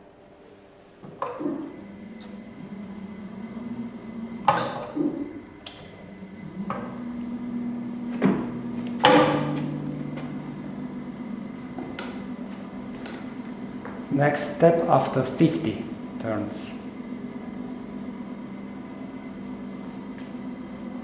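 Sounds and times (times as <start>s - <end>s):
winding machine humming: 1.4s - 21.0s.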